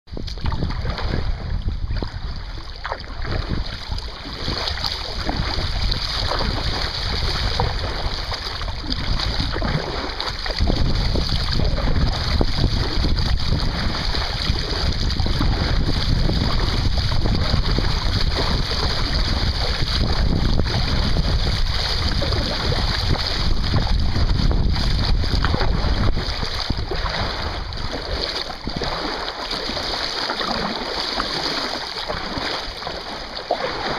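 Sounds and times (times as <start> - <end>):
wind buffeting microphone: 0.1 - 29.0
kayak paddling: 0.1 - 33.9.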